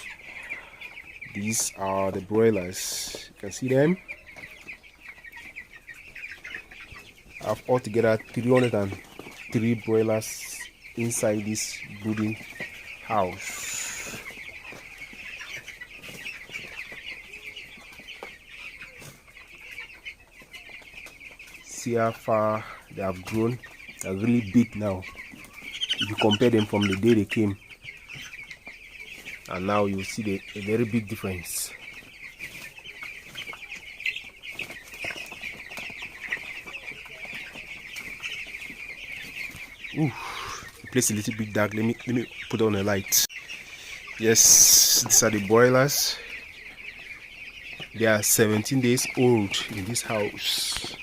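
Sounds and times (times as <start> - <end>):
chickens peeping: 0.0 - 51.0.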